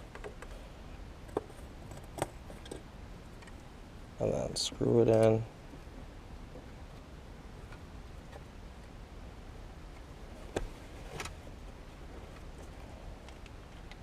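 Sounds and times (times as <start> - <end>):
faint ticks and handling noises: 0.0 - 9.0, 9.8 - 14.0
low steady hum: 0.0 - 14.0.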